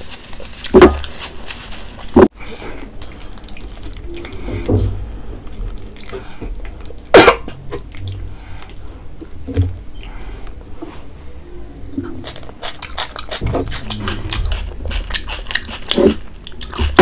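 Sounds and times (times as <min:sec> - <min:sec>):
person chewing: 0:02.0 - 0:10.8, 0:11.9 - 0:17.0.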